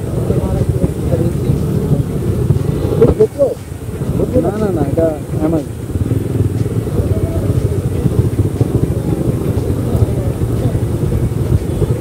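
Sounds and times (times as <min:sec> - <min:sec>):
faint voices: 0:00.0 - 0:12.0
motorcycle engine rumble: 0:00.0 - 0:12.0
slow street traffic: 0:00.0 - 0:12.0.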